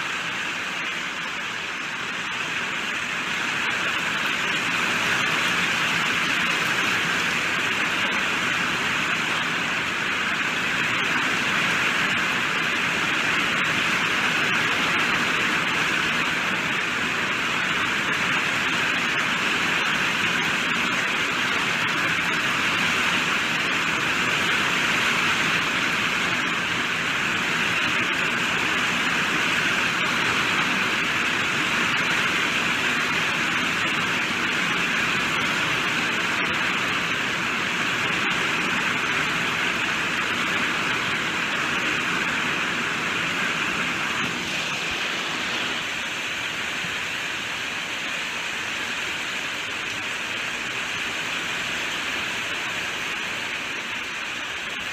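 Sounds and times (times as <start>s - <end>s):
heavy rainfall: 0.0s - 54.9s.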